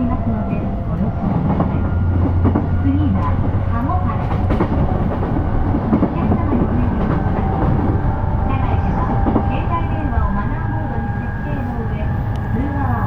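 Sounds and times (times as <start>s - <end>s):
train cabin rumble: 0.0s - 13.0s
train motor whine: 0.0s - 13.0s.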